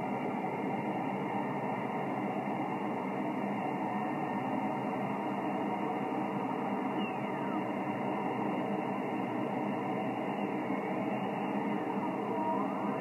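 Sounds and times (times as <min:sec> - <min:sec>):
radio band noise hiss: 0:00.0 - 0:13.0.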